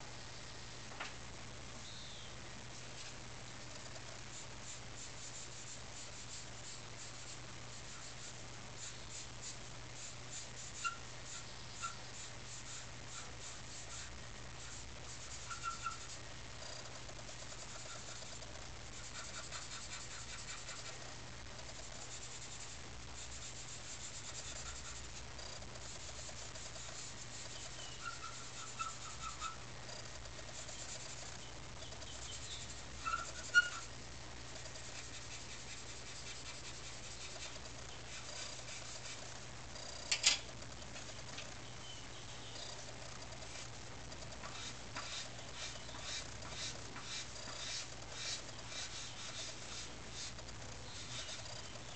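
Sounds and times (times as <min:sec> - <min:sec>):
pencil scratching on paper: 0:03.7 - 0:33.9, 0:34.5 - 0:40.0, 0:42.6 - 0:51.9.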